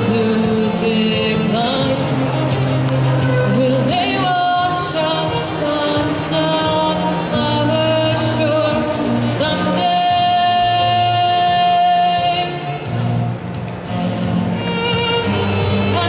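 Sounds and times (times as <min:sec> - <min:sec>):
woman singing into microphone: 0:00.0 - 0:13.0, 0:15.2 - 0:16.0
musical accompaniment: 0:00.0 - 0:16.0.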